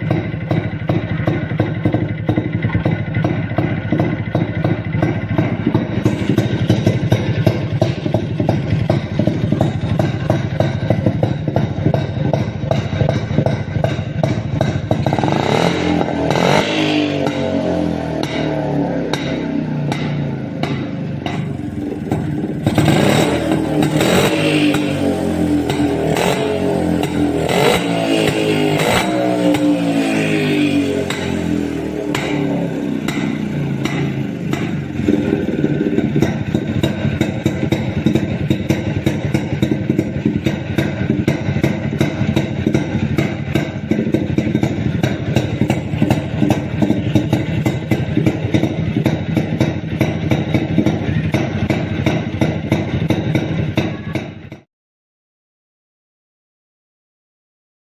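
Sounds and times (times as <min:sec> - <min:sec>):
motorcycle engine running: 0:00.0 - 0:54.7.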